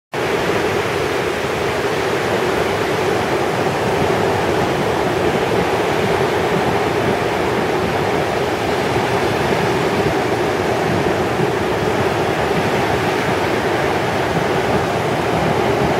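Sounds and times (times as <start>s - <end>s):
surf washing onto beach: 0.2s - 15.9s.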